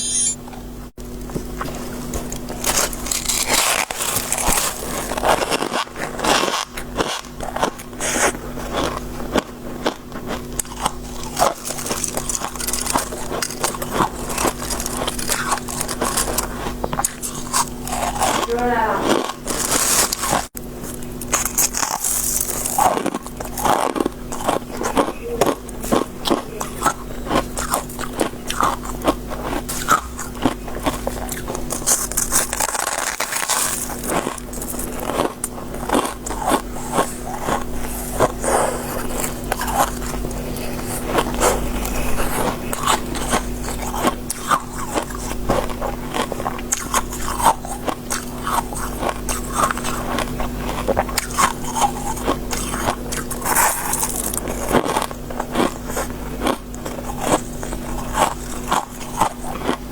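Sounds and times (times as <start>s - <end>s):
crunching shaved ice: 1.5s - 59.9s.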